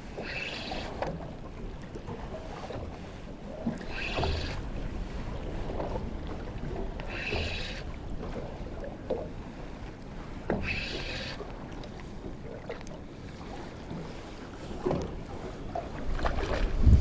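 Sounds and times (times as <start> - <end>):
water noise around boat: 0.0 - 17.0
wind: 0.0 - 17.0.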